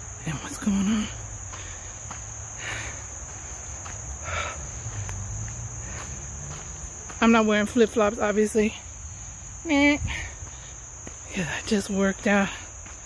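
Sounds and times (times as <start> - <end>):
crickets chirping: 0.0 - 13.0
footsteps on dirt trail: 0.0 - 13.0.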